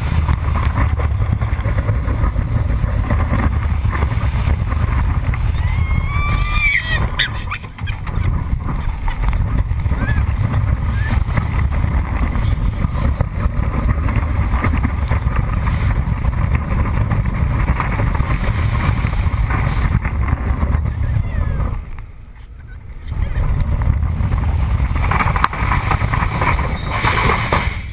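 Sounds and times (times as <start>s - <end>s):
roller coaster rumbling on track: 0.0s - 27.9s
wind buffeting microphone: 0.0s - 27.9s.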